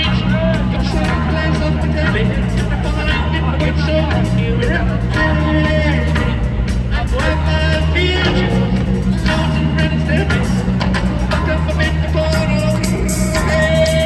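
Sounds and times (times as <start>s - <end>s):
heavy bass line: 0.0s - 14.0s
live rock band playing: 0.0s - 14.0s.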